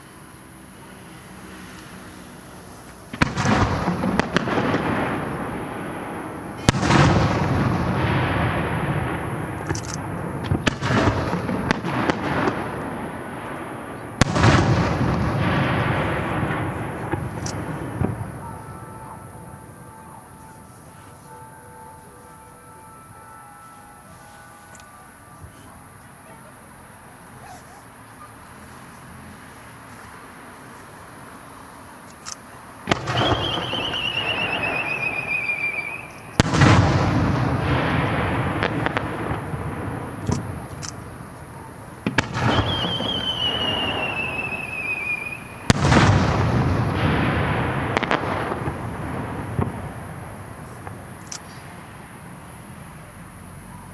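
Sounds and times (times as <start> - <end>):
fireworks shells bursting: 0.0 - 25.8, 27.8 - 53.2
rolling rumble: 2.4 - 23.0, 25.1 - 53.9.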